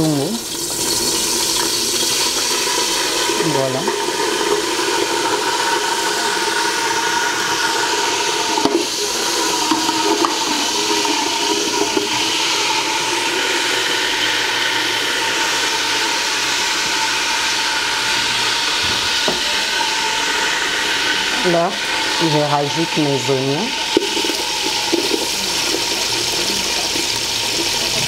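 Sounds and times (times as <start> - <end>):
hot oil hissing in a pot: 0.0 - 28.0.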